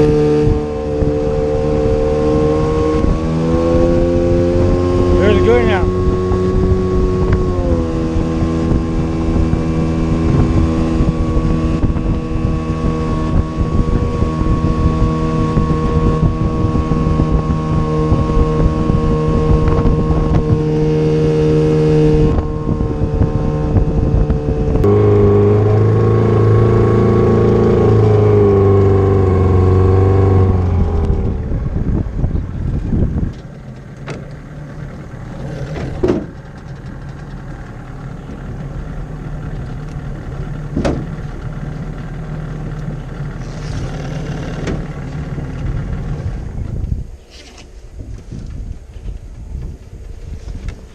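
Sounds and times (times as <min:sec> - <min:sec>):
motorboat engine running: 0:00.0 - 0:50.9.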